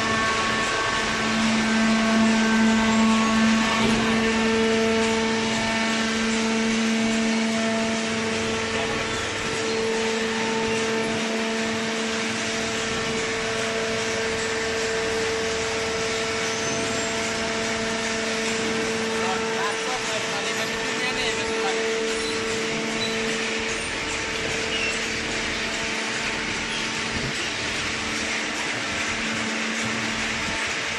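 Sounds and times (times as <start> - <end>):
baler motor humming: 0.0 - 30.9
mechanical background noise: 0.0 - 30.9.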